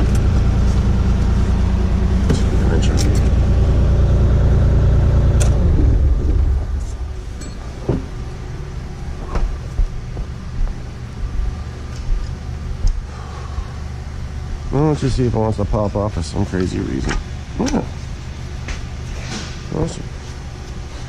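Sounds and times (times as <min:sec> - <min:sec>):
excavator diesel engine running: 0:00.0 - 0:19.1.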